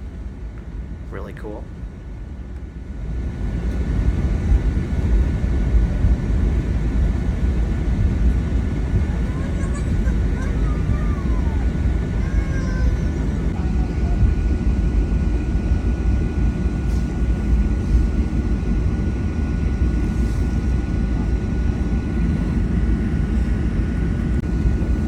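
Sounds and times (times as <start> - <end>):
jet engine cabin rumble: 0.0 - 25.0.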